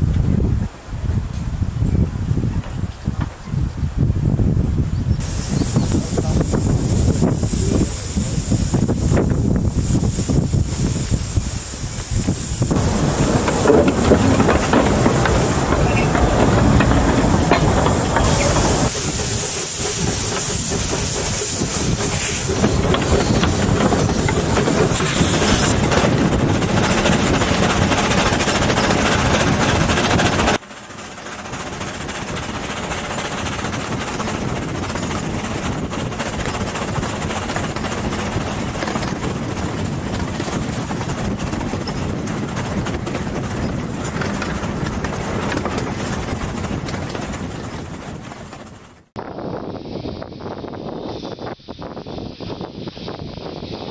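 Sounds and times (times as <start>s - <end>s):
steam locomotive hissing steam: 5.2s - 48.6s
train rumbling past: 5.2s - 49.2s.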